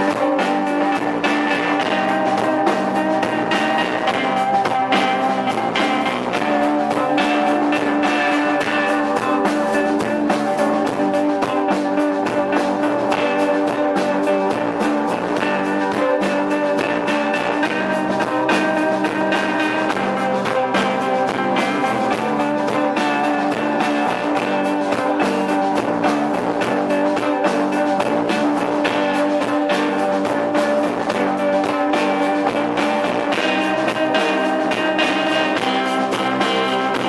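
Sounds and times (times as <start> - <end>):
electric guitar: 0.0 - 37.0
live band playing: 0.0 - 37.0.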